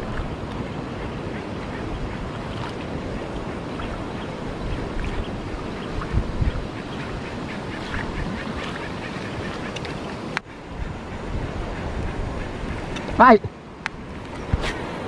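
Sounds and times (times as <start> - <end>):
flowing river water: 0.0 - 15.0
wind buffeting microphone: 0.0 - 15.0.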